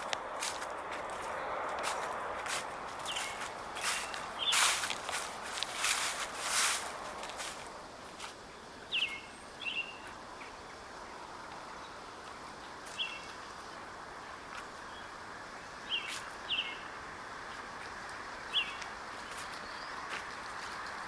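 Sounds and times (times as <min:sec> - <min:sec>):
songbird chirping: 0:00.0 - 0:21.0
steady background hiss: 0:02.2 - 0:21.0.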